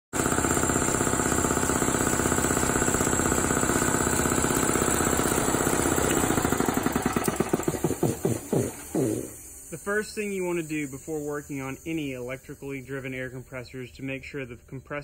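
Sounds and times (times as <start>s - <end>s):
piston air compressor pulsing: 0.2s - 13.6s.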